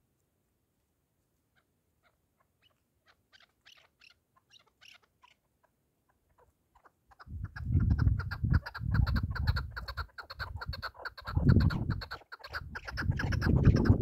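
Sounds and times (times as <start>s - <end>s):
partridge clucking calls: 1.6s - 14.0s.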